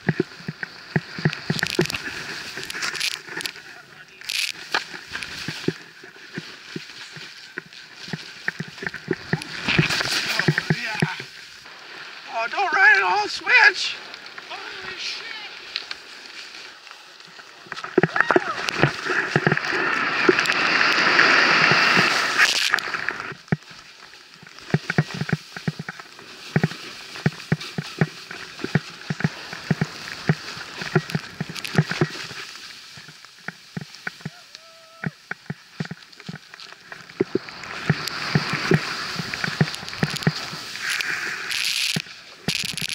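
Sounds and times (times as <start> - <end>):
wind and snow rushing: 0.0 - 34.4, 36.9 - 42.9.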